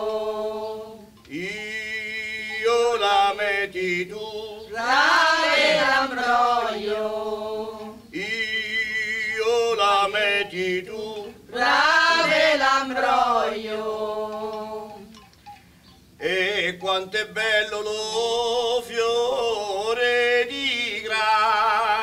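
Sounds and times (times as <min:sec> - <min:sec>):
unaccompanied folk singing: 0:00.0 - 0:15.4, 0:16.0 - 0:22.0.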